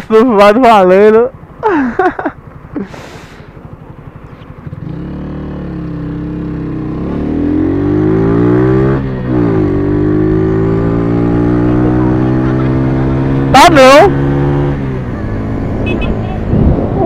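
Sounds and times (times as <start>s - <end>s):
motorcycle engine revving: 2.5s - 17.0s.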